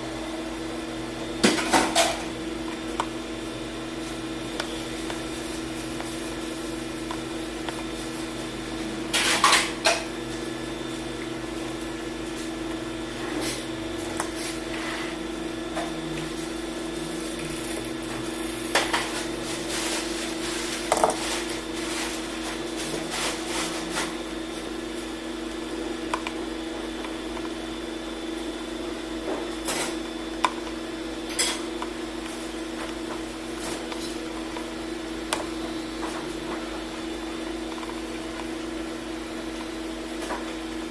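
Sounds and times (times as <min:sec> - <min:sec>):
steady background hum: 0:00.0 - 0:40.9.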